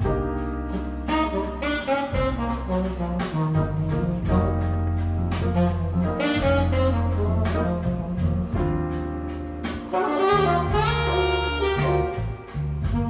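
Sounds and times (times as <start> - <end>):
deep bass notes: 0.0 - 13.0
saxophone lead: 1.1 - 8.8, 9.9 - 13.0.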